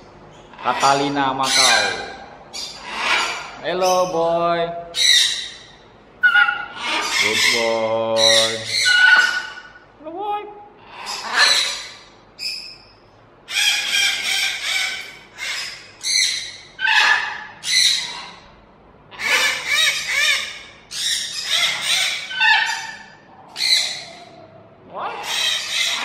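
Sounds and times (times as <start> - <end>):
parrots squawking: 0.2 - 10.0, 10.7 - 26.0.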